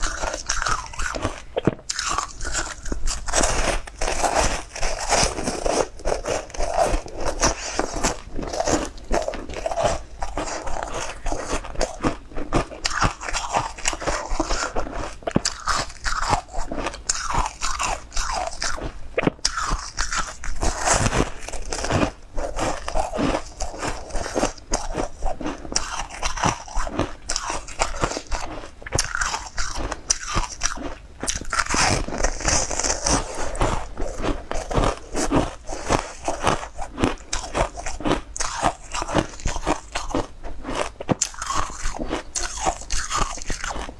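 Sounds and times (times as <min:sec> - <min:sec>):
crunching and chewing food: 0:00.0 - 0:43.9.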